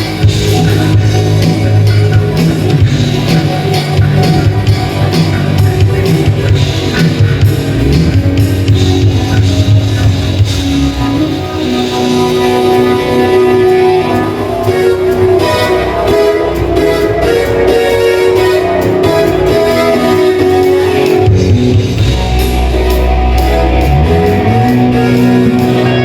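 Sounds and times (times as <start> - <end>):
bass guitar: 0.0 - 26.0
drum kit: 0.0 - 26.0
electric guitar: 0.0 - 26.0.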